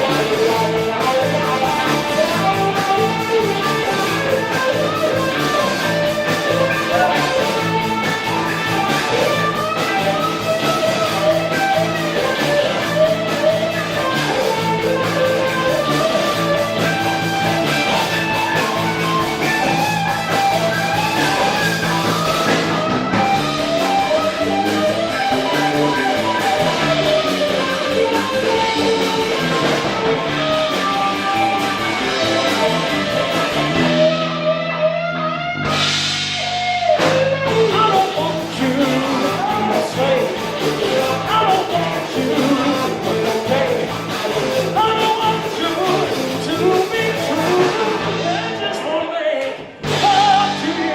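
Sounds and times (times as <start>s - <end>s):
electric guitar: 0.0s - 50.9s
live rock band playing: 0.0s - 50.9s.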